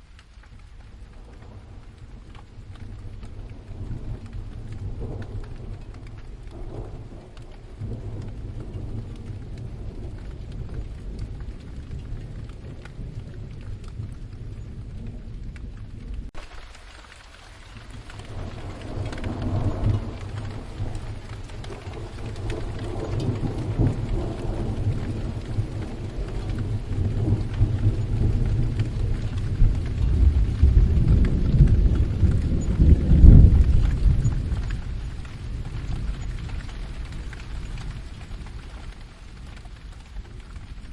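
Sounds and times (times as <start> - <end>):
steady rain: 0.0 - 40.9
rolling thunder: 0.8 - 16.4, 17.6 - 40.9.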